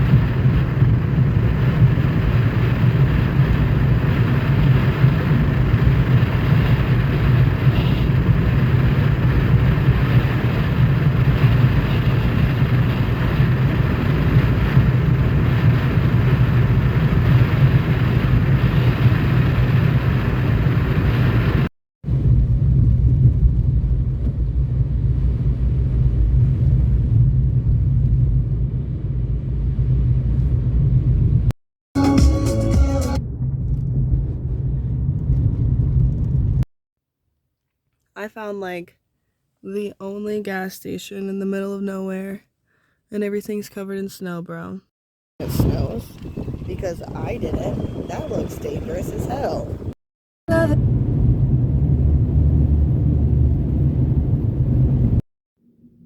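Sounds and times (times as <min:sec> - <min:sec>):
car road rumble inside cabin: 0:00.0 - 0:31.5, 0:32.8 - 0:36.7, 0:45.4 - 0:55.2.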